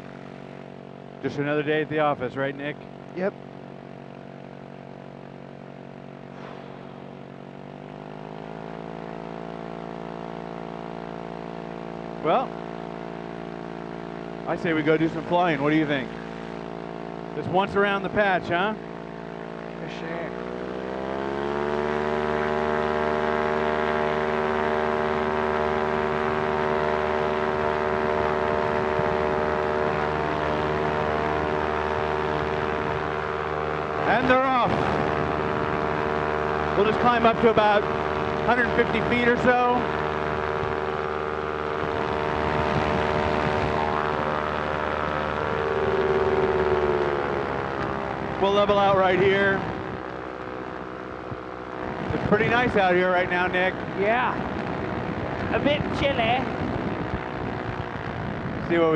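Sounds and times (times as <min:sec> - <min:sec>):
aircraft engine and propeller idling: 0:00.0 - 0:58.9.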